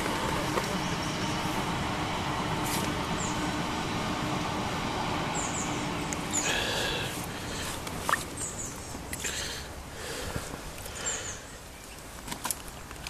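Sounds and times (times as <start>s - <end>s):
passing train rumbling: 0.0s - 10.7s.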